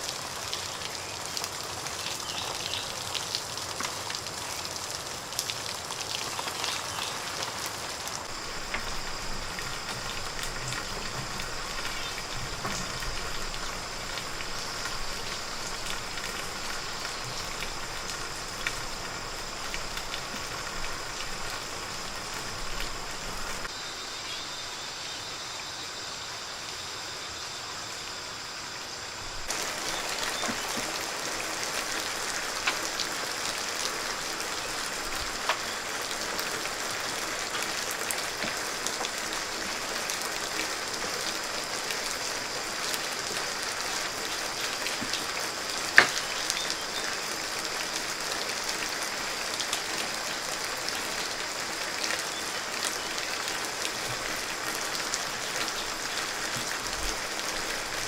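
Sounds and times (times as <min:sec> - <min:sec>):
patter of falling water: 0:00.0 - 0:58.0.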